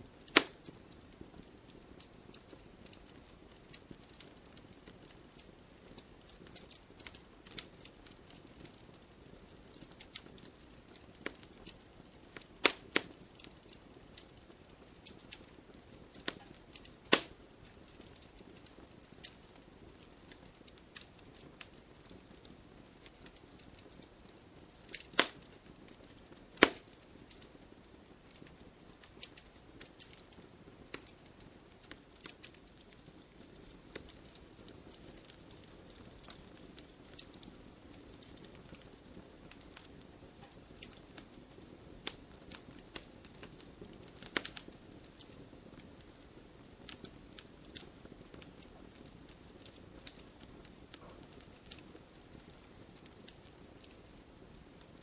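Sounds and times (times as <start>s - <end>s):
campfire popping and snapping: 0.0s - 55.0s
hiss of burning fire: 0.0s - 55.0s.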